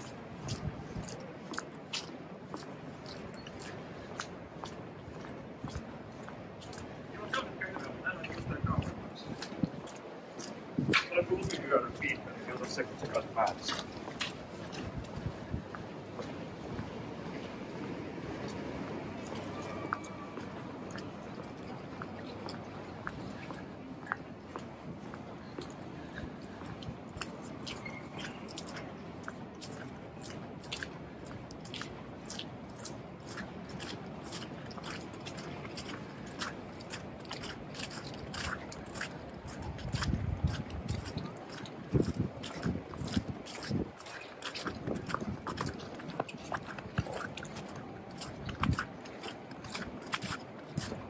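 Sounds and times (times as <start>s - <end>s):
low background noise: 0.0s - 51.0s.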